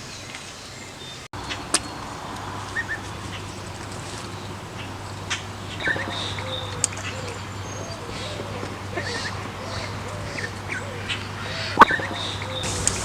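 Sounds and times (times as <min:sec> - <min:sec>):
ducklings peeping: 0:00.1 - 0:13.0
low background hum: 0:01.4 - 0:13.0.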